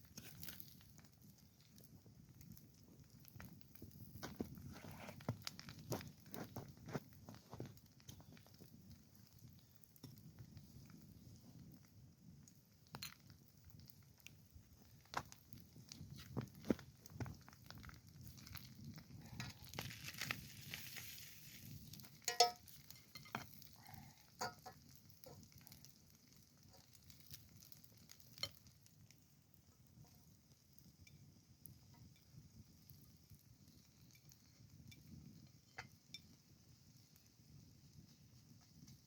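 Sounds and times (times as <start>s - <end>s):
faint sizzle: 0.0s - 39.0s
food frying in a pan: 0.0s - 39.0s.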